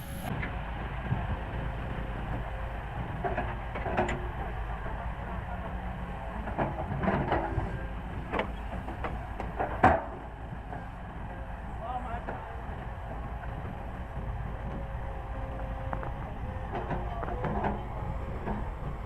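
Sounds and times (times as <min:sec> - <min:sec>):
heavy diesel machinery rumbling: 0:00.0 - 0:19.0.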